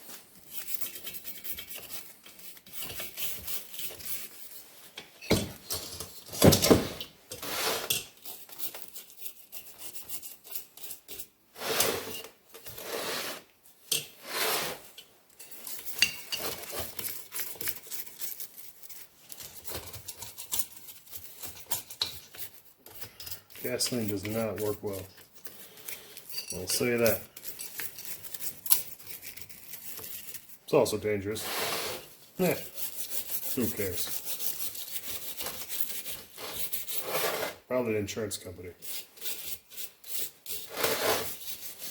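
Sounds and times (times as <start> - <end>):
scraping and handling: 0.0 - 37.7, 38.8 - 41.9
brush scrubbing metal part: 0.4 - 4.7, 7.3 - 12.2, 14.2 - 37.6, 38.8 - 41.9.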